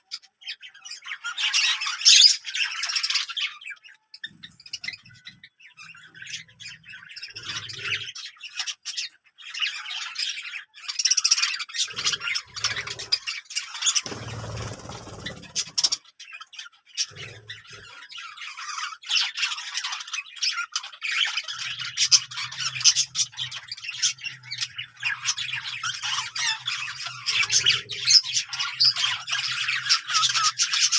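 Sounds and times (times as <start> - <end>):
parrots chattering and squawking: 0.0 - 30.9.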